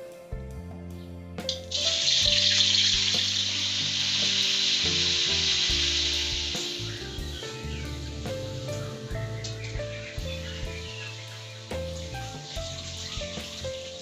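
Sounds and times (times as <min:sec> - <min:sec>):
background music: 0:00.0 - 0:14.0
food sizzling in hot oil: 0:01.5 - 0:14.0.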